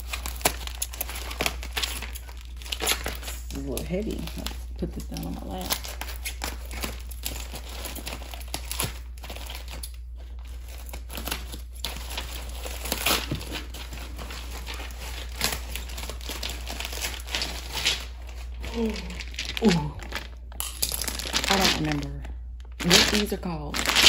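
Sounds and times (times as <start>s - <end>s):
plastic wrapping crinkling: 0.0s - 24.0s.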